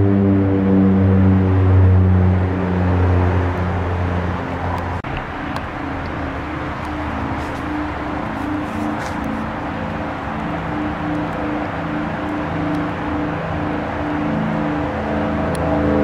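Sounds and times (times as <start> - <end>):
aircraft rushing noise: 0.0 - 16.0
droning background music: 0.0 - 16.0.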